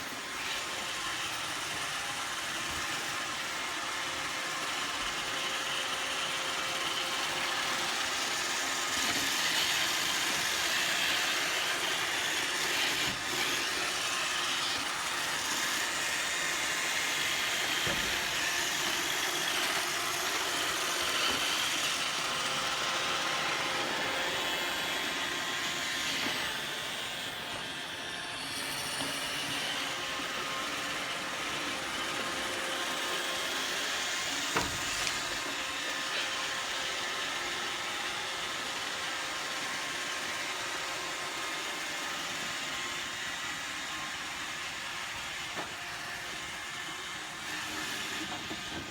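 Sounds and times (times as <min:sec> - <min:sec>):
robot vacuum running: 0:00.0 - 0:48.9.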